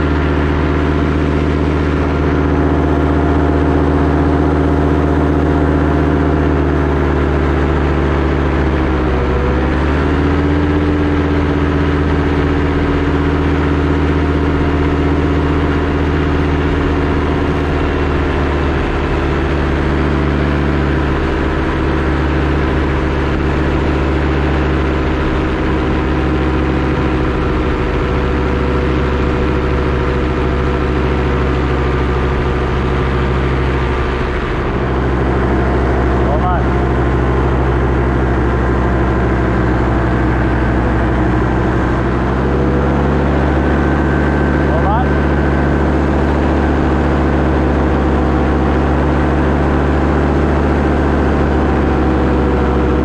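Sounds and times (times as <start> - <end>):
paramotor engine and propeller: 0.0 - 53.0.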